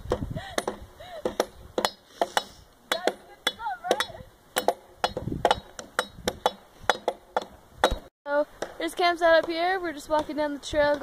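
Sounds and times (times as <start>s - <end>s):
axe chopping wood: 0.0s - 11.0s.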